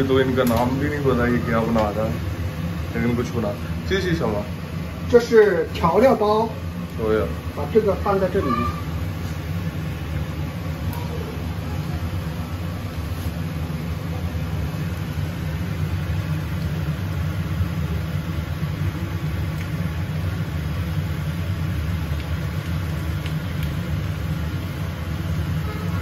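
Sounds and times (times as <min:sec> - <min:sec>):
extractor fan rumbling: 0:00.0 - 0:26.0.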